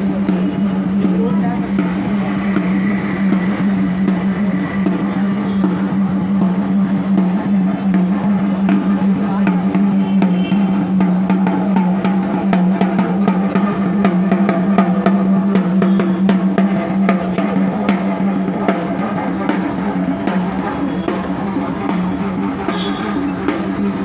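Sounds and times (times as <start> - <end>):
hand drum rhythm: 0.0 - 24.0.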